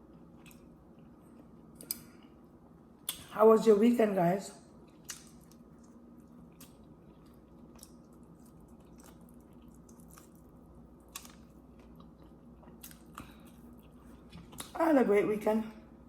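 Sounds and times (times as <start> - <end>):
person chewing food: 0.0 - 3.3, 4.8 - 14.8.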